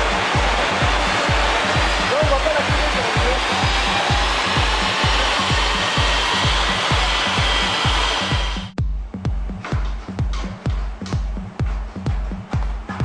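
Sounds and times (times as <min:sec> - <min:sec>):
fast electronic music beat: 0:00.0 - 0:13.0.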